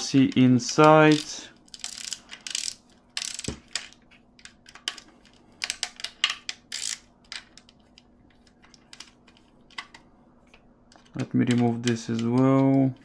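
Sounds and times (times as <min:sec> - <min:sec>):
plastic parts clicking and rattling: 0:00.2 - 0:13.0.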